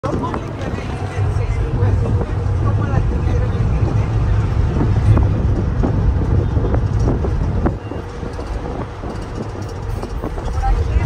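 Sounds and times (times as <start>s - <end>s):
tyre and engine rumble: 0.0s - 11.0s.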